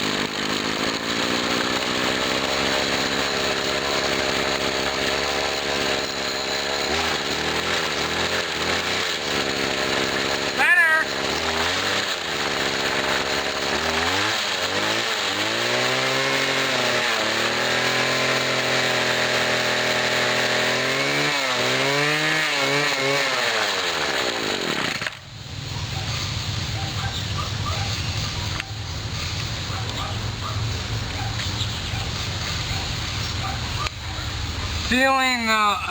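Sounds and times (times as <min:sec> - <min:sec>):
string trimmer engine revving: 0:00.0 - 0:25.3, 0:27.8 - 0:35.9.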